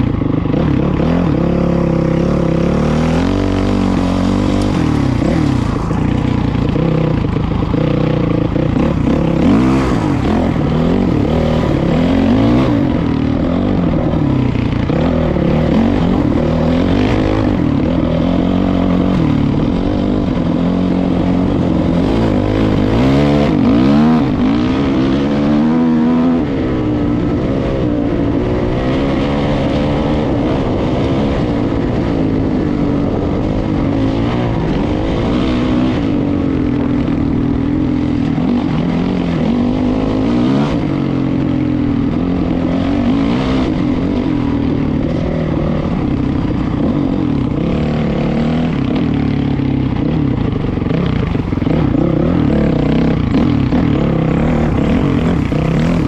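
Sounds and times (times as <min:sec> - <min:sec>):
constant rush of noise: 0:00.0 - 0:56.0
vehicle engine revving: 0:00.0 - 0:56.0.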